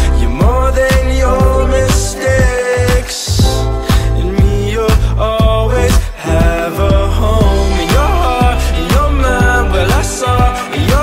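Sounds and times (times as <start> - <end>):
pop song with deep bass: 0.0 - 11.0.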